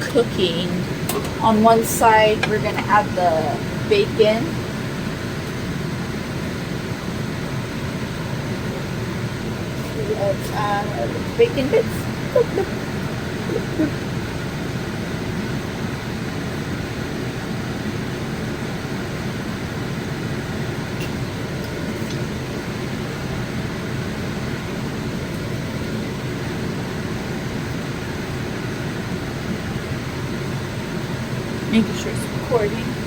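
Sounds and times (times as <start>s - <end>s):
fan-like whir: 0.0s - 33.0s.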